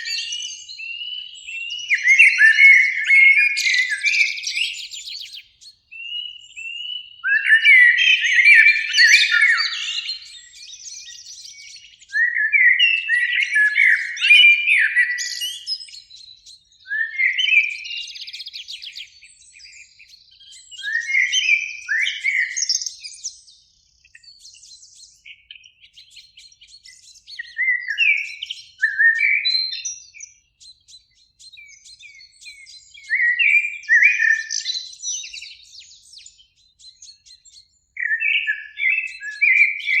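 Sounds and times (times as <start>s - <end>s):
blackbird singing: 0.0s - 40.0s.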